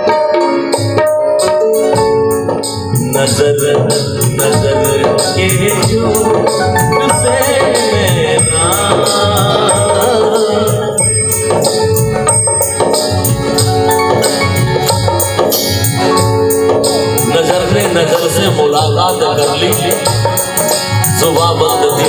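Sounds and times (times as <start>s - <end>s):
dholak drum rhythm: 0.0s - 22.0s
harmonium chords: 0.0s - 22.0s.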